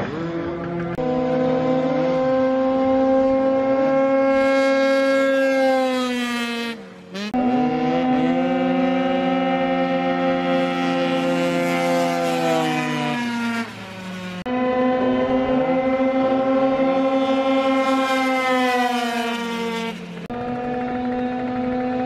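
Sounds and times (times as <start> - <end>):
scooter engines whining: 0.0 - 22.0.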